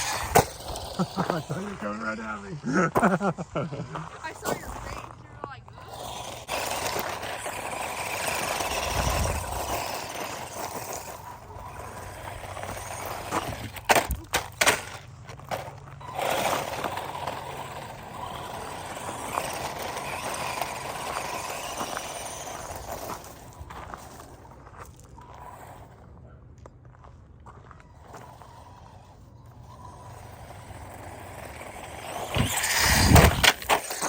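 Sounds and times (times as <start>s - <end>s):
toy truck motor and tyres: 0.0s - 34.0s.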